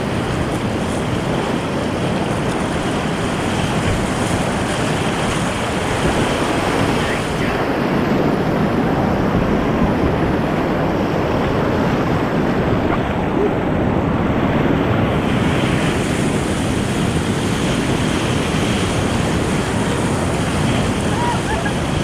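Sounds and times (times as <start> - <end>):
whitewater rapids rushing: 0.0 - 22.0
wind noise on microphone: 0.0 - 22.0.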